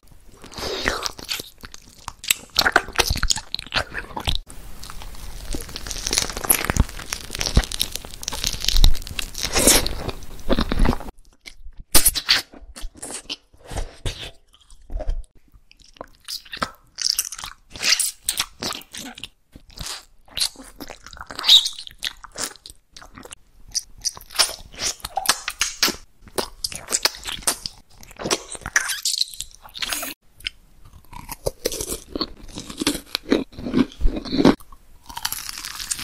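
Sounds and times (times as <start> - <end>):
crisp food being chewed: 0.4 - 11.8, 14.5 - 36.0.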